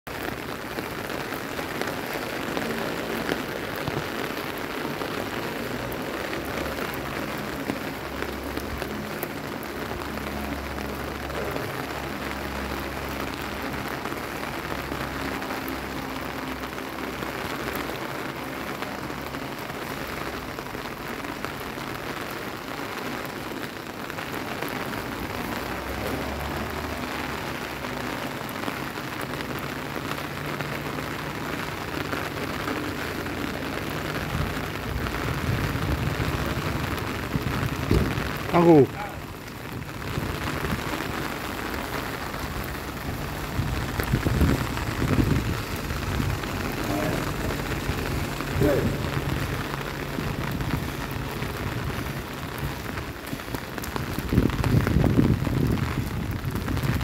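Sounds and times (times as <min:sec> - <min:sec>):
rain on stone paving: 0:00.0 - 0:57.0.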